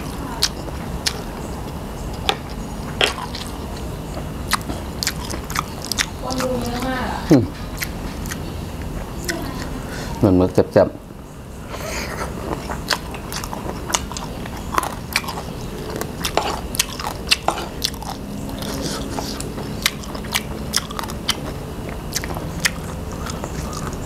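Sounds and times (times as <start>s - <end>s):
crunchy chewing: 0.0s - 9.9s, 11.8s - 24.0s.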